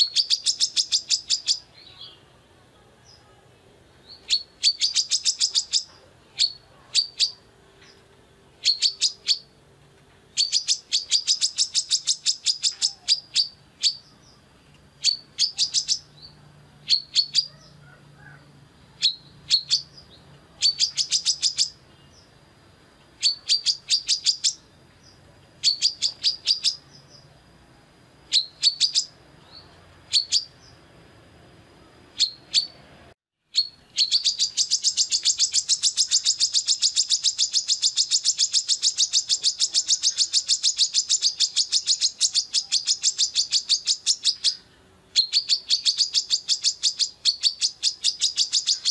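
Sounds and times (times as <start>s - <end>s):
bird calling with sharp chips: 0.0s - 2.2s, 4.0s - 9.6s, 10.3s - 22.4s, 23.0s - 27.3s, 28.3s - 30.8s, 32.1s - 32.8s, 33.5s - 48.9s.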